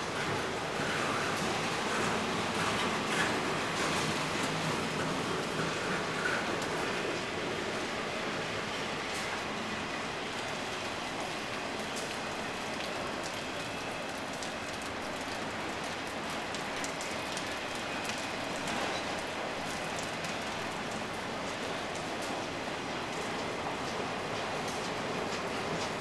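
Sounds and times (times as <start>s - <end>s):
steel wheels rushing on rail: 0.0s - 26.0s.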